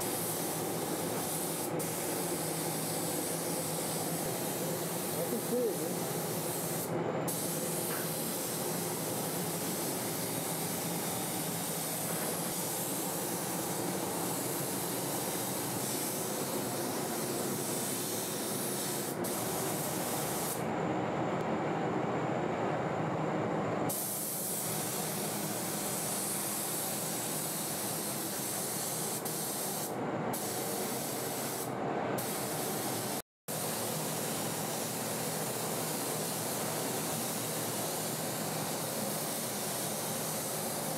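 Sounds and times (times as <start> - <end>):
spray gun hissing: 0.0 - 20.6, 23.9 - 40.9.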